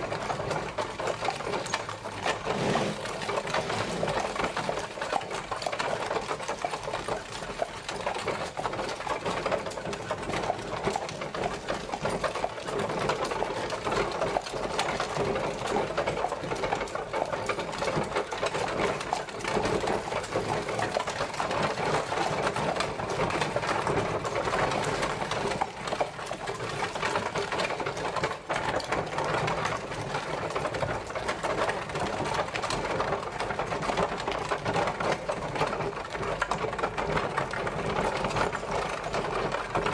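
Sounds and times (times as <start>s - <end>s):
carriage wheels clattering: 0.0s - 39.9s.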